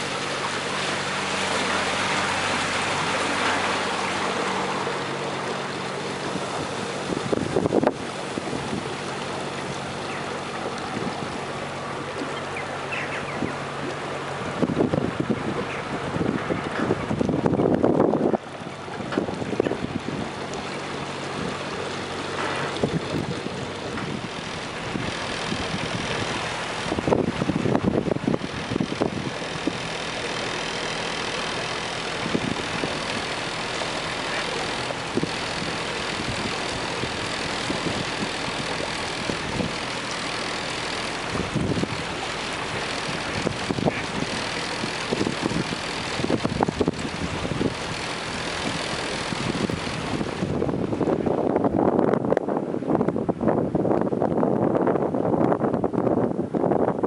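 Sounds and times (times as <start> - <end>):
boat engine humming: 0.0 - 57.0
water washing along hull: 0.0 - 57.0
wind buffeting microphone: 0.0 - 57.0.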